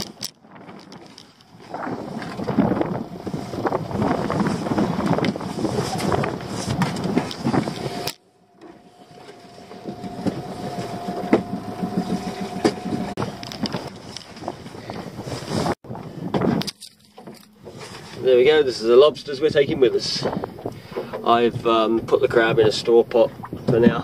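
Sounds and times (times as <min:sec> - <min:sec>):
boat engine humming: 0:00.0 - 0:23.6
knocking and rattling on boat: 0:00.0 - 0:24.0.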